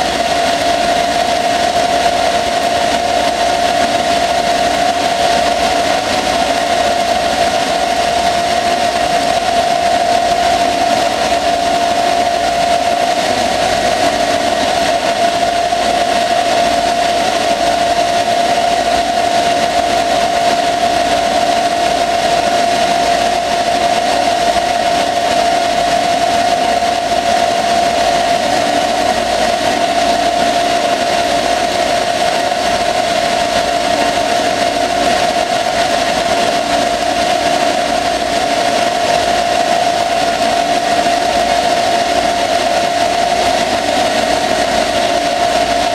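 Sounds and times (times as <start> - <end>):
lathe high whine: 0.0 - 45.9.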